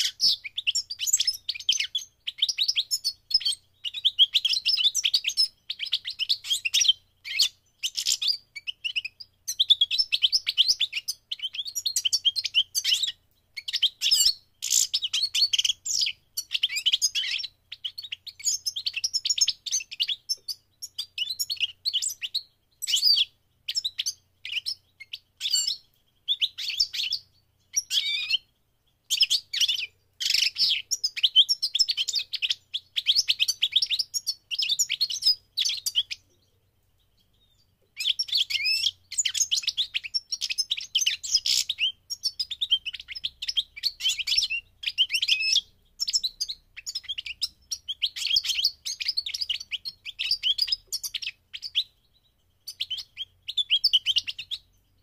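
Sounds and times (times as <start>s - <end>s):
goldfinch singing: 0.0s - 55.0s.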